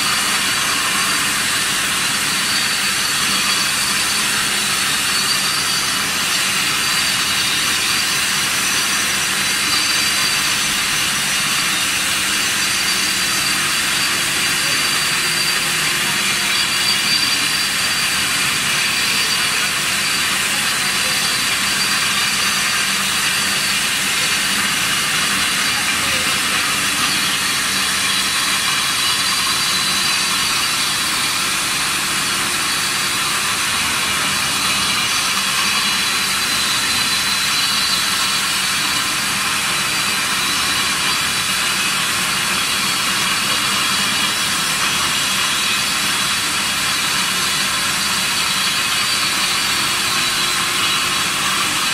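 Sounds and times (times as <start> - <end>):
concrete floor grinder running: 0.0 - 51.9.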